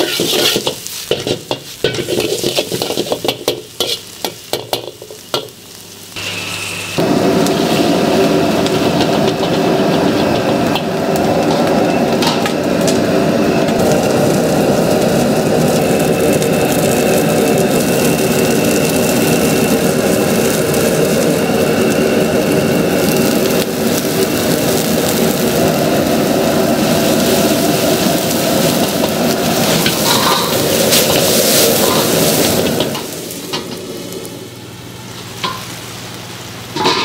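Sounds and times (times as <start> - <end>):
food sizzling in wok: 0.0 - 37.0
gas wok burner roaring: 0.0 - 37.0.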